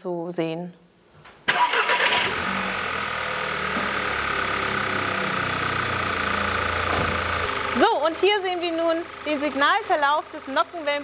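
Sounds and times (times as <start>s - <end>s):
car engine idling: 1.5s - 11.0s.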